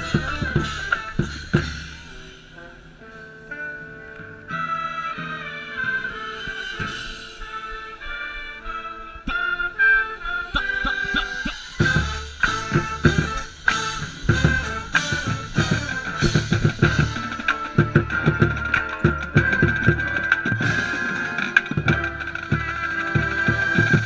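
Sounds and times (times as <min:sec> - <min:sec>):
marching band playing: 0:00.0 - 0:02.7, 0:04.5 - 0:24.0
wind instruments long note: 0:00.0 - 0:02.8, 0:03.5 - 0:24.0.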